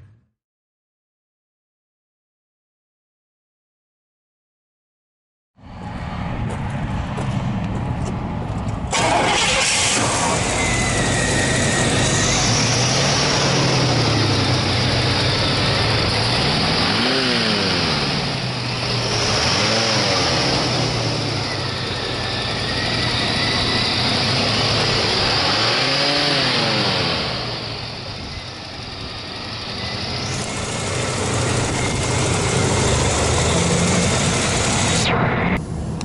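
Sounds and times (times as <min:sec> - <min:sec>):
car engine idling and revving: 0:05.6 - 0:36.0.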